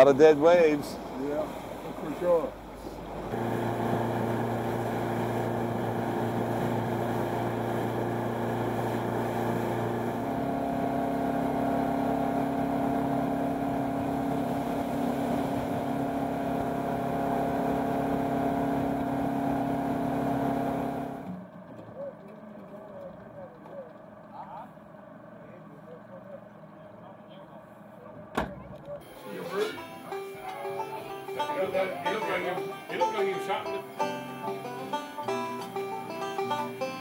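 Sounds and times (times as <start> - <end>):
motorboat engine running: 0.0 - 37.0
water rushing along hull: 0.0 - 37.0.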